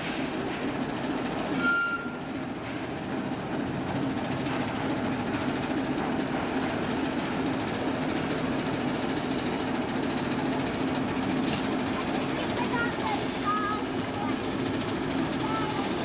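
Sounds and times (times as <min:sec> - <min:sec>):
engine running with a rattle: 0:00.0 - 0:16.0.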